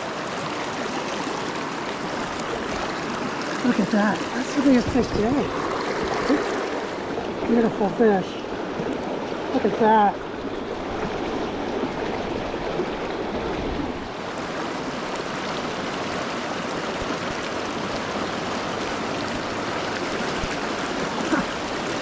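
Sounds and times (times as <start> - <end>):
mountain river rushing: 0.0 - 22.0.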